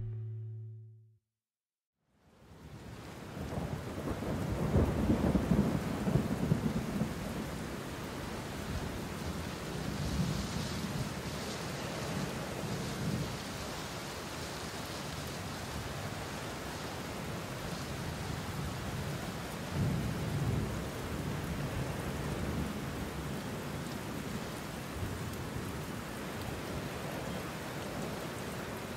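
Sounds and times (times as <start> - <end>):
steady rain falling: 2.3 - 28.9.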